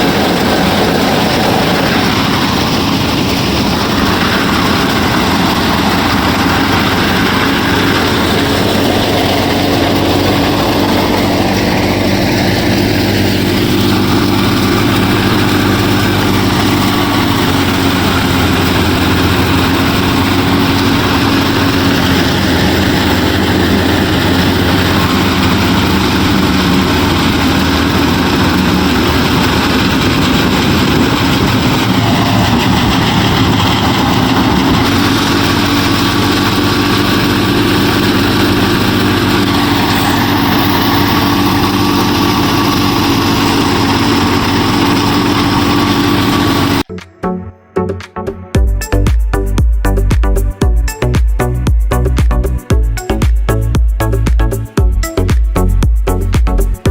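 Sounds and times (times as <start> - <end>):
low motor drone: 0.0 - 56.9.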